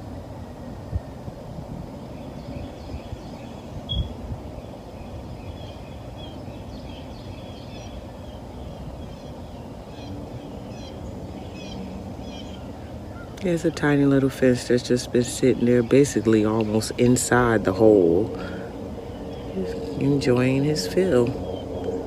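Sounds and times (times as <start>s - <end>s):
steady low rumble: 0.0s - 22.0s
small songbirds chirping: 1.9s - 22.0s.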